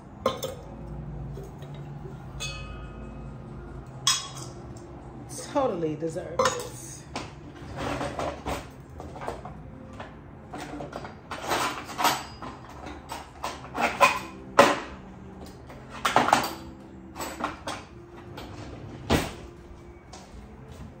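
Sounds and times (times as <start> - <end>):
dishes clinking: 0.2 - 3.4, 4.0 - 4.8, 6.3 - 19.6.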